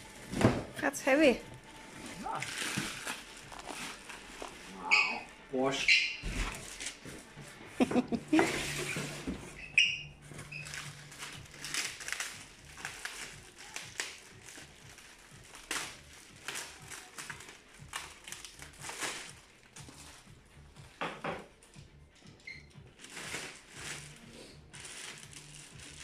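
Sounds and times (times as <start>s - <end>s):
plastic bag rustling: 0.0s - 7.4s, 8.0s - 20.3s, 23.0s - 26.0s.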